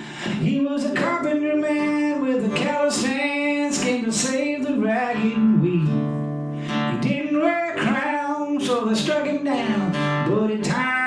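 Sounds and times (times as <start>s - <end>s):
man singing country song: 0.0s - 11.0s
strummed acoustic guitar: 0.0s - 11.0s.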